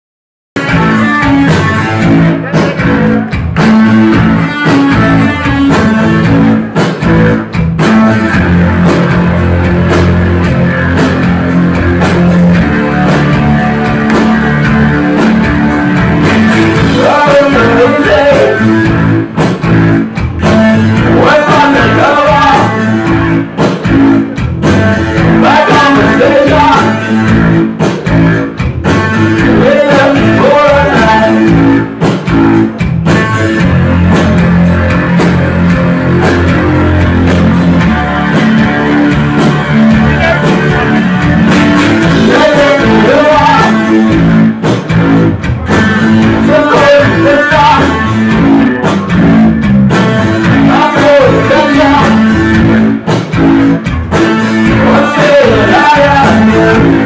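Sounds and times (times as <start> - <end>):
electric bass guitar: 0.6 - 57.0
keyboards: 0.6 - 57.0
live rock band playing: 0.6 - 57.0.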